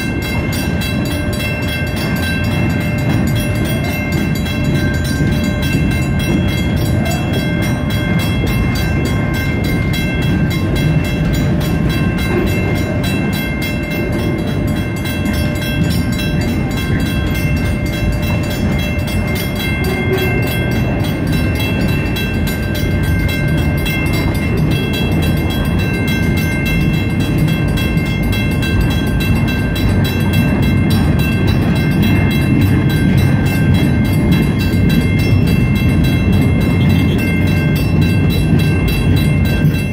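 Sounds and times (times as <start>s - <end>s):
crossing bell ringing: 0.0s - 39.9s
freight train rumbling past: 0.0s - 39.9s.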